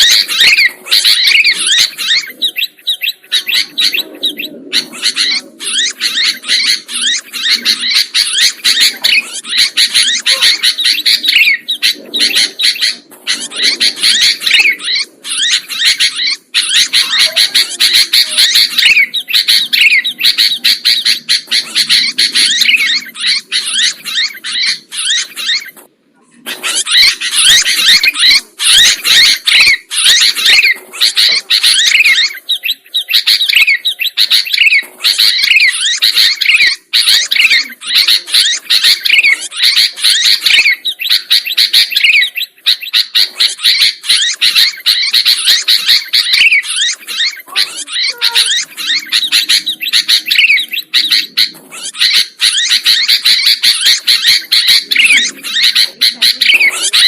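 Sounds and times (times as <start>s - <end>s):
bulbuls chattering and singing: 0.0s - 57.0s.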